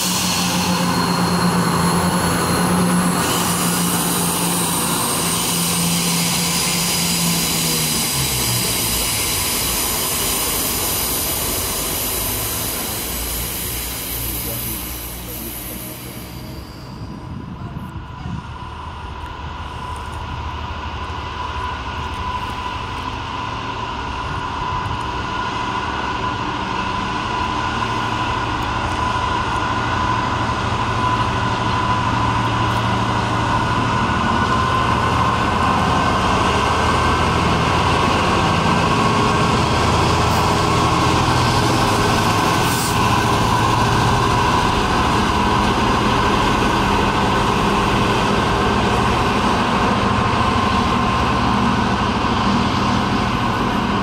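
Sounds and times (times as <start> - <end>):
diesel locomotive engine passing: 0.0 - 54.0.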